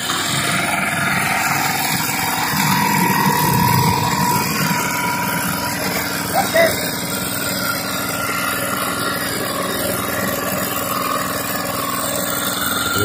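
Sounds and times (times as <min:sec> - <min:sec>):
small pump engine running: 0:00.0 - 0:13.0.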